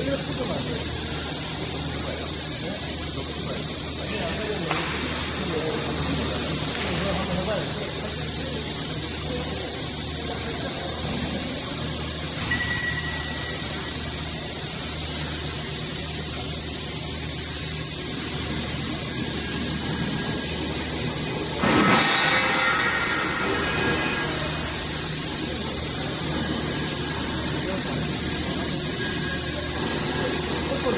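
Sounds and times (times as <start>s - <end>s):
high hiss: 0.0s - 30.9s
loud noisy machine: 0.0s - 30.9s
low machinery hum: 0.0s - 30.9s.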